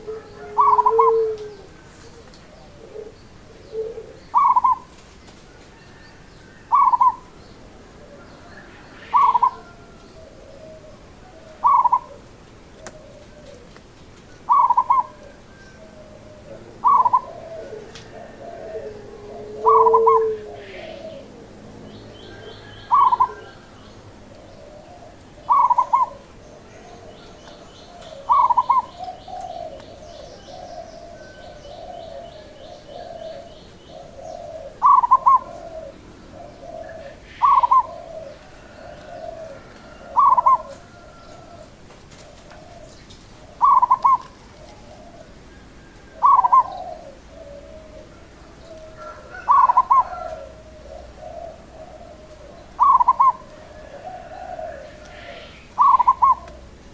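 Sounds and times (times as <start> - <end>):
dove staccato cooing: 0.0 - 56.9
soft rolling cooing: 0.0 - 56.9.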